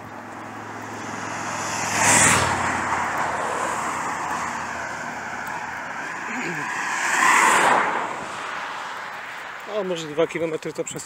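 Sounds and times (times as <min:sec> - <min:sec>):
car passing by: 0:00.0 - 0:10.2.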